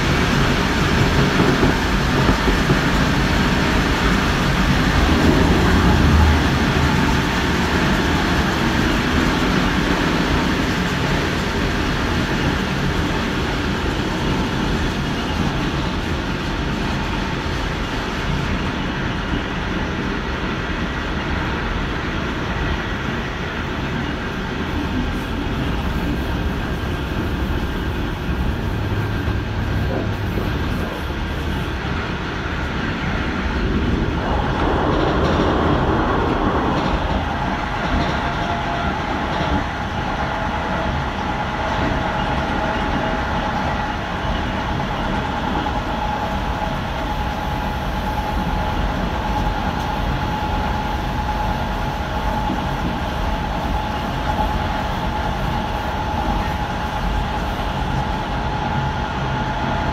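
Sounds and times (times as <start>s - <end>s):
clickety-clack of wheels: 0.0s - 59.9s
train wheels rumbling on rail: 0.0s - 59.9s.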